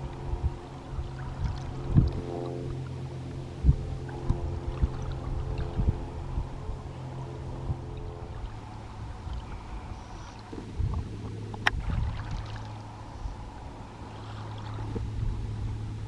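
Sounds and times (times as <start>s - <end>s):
low steady hum: 0.0s - 16.0s
water sloshing: 0.0s - 16.0s.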